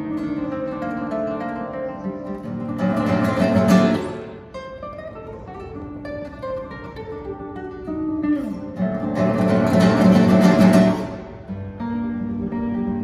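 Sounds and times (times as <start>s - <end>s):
classical guitar playing: 0.0s - 13.0s.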